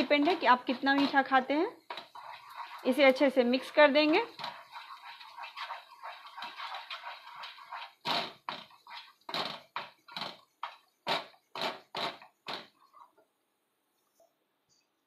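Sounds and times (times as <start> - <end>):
wooden spatula scraping a pan: 0.0 - 13.2.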